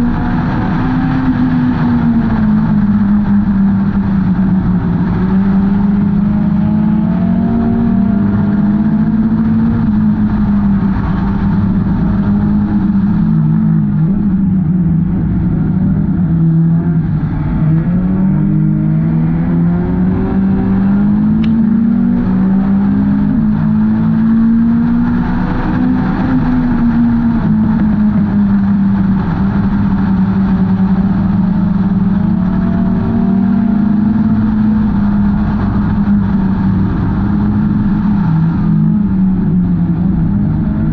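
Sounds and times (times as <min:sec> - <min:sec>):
race car engines: 0:00.0 - 0:40.9.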